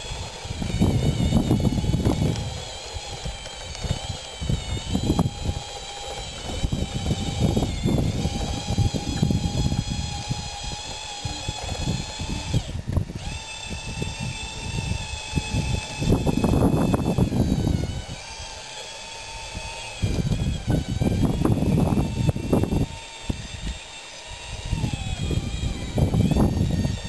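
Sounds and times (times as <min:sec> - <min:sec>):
electric motors and gearboxes whining: 0:00.0 - 0:27.0.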